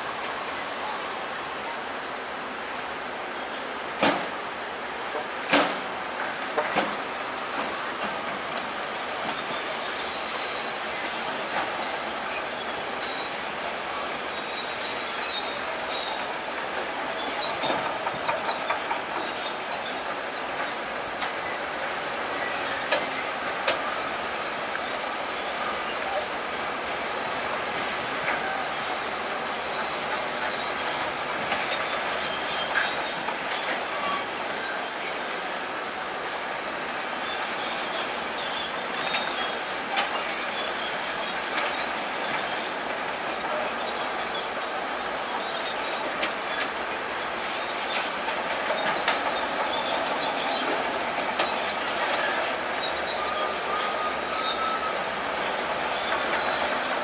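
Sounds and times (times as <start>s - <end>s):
crawler tracks clanking and squealing: 0.0s - 57.0s.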